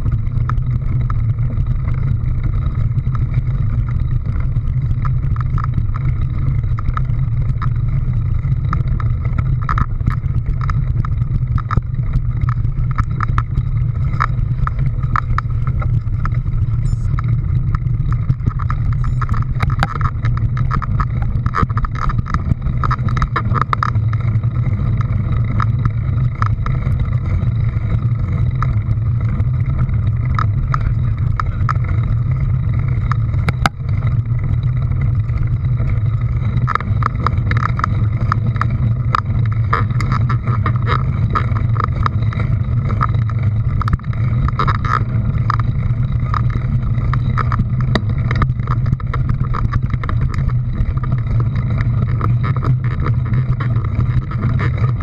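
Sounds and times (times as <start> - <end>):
engine running with low hum: 0.0 - 55.0
small clicks and rattles: 0.0 - 55.0.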